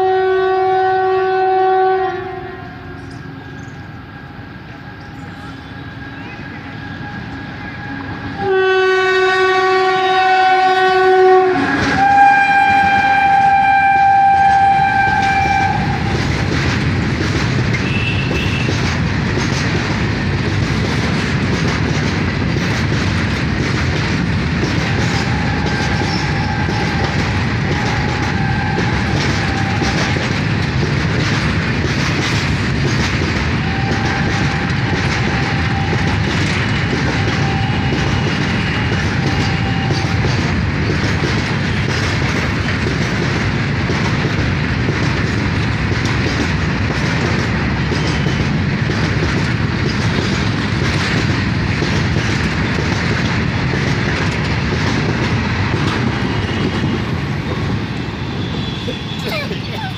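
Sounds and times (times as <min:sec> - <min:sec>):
freight train wheels rushing: 0:00.0 - 0:59.9.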